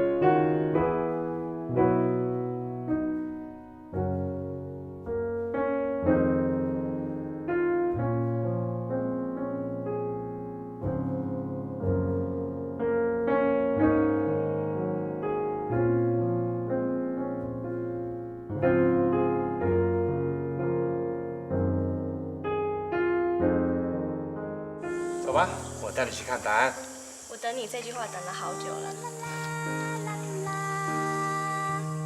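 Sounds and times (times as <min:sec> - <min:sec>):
slow solo piano: 0:00.0 - 0:27.3, 0:28.2 - 0:32.0.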